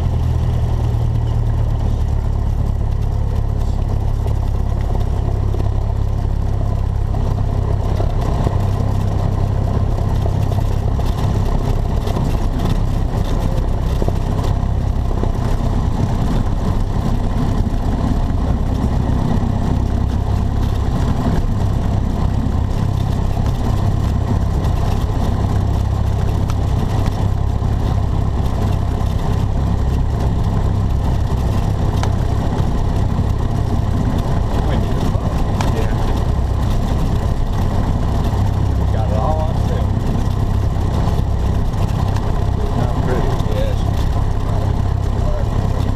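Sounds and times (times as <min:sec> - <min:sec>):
propeller airplane engine drone: 0:00.0 - 0:45.9.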